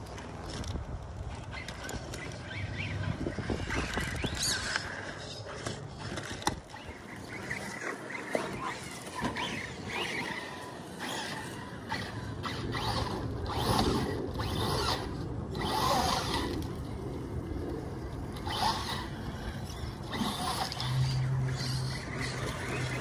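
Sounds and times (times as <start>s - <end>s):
rc car motor whine: 1.4s - 23.0s.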